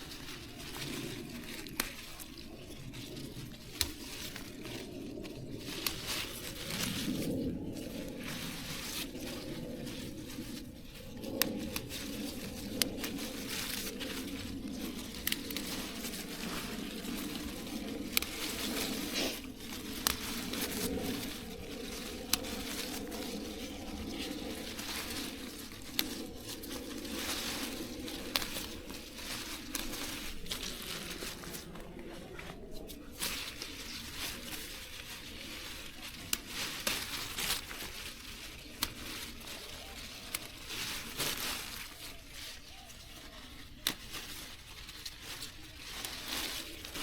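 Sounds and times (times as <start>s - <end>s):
low hum: 0.0s - 42.2s
rustling and crinkling: 0.0s - 47.0s.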